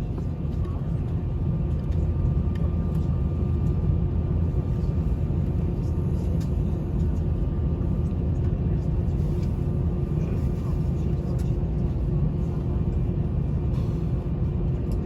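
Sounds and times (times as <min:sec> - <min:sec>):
aircraft cabin rumble and hum: 0:00.0 - 0:15.0.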